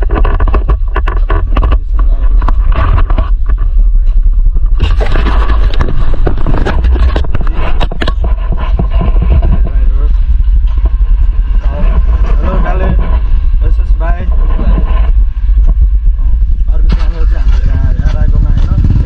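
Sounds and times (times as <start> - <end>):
motorcycle engine: 0.0 - 19.0
road noise: 0.0 - 19.0
wind buffeting microphone: 0.0 - 19.0.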